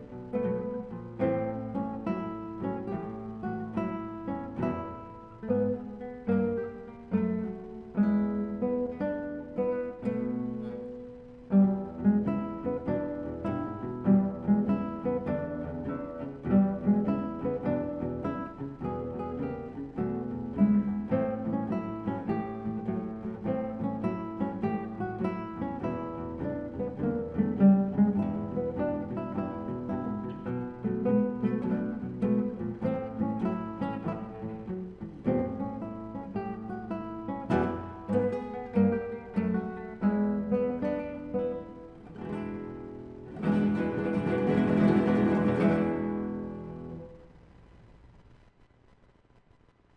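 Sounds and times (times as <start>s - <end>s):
classical guitars playing blues: 0.0s - 47.7s.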